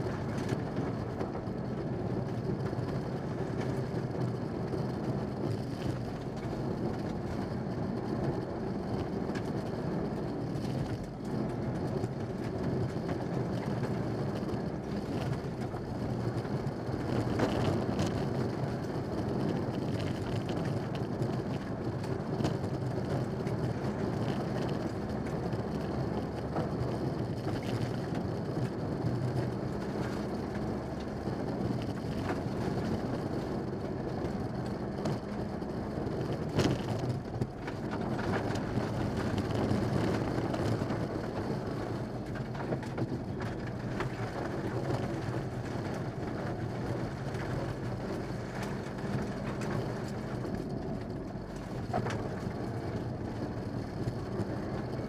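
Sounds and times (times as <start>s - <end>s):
car engine running hard: 0.0s - 55.0s.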